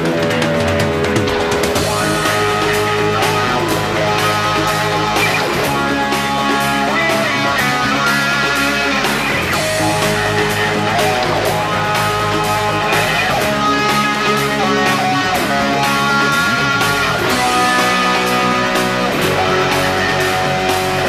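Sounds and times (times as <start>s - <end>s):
guitar-led music with beat: 0.0s - 21.0s
sliding guitar notes: 0.0s - 21.0s.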